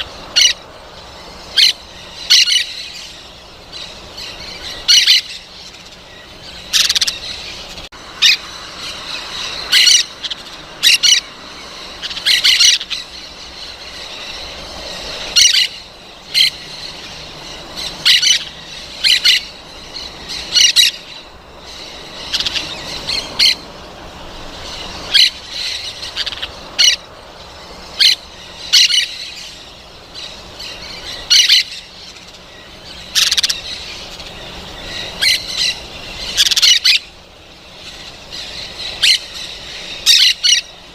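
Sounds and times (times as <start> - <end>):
parrots calling: 0.0 - 40.9.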